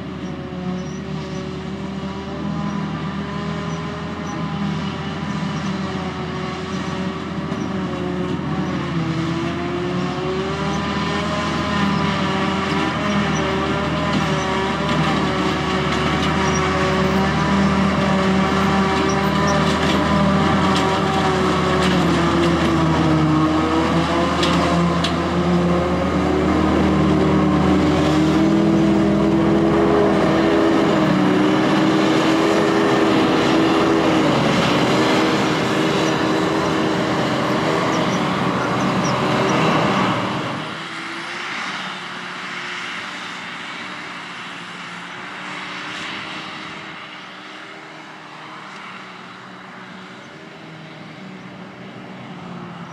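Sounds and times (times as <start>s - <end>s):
forage harvester engine drone: 0.0s - 52.9s.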